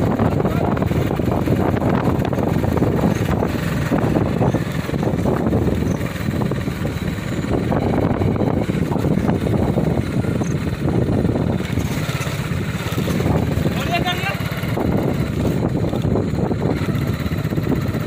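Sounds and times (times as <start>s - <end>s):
small engine running: 0.0s - 18.0s
wind rushing over microphone: 0.0s - 18.0s.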